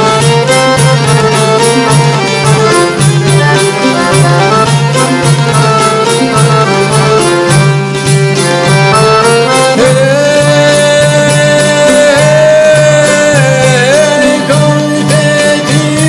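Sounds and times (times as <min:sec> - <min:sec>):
instrumental folk music: 0:00.0 - 0:16.0.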